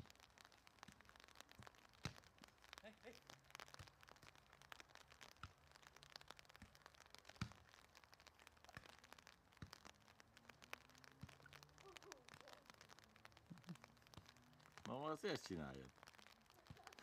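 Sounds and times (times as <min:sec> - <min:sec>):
raindrops ticking: 0:00.0 - 0:17.0.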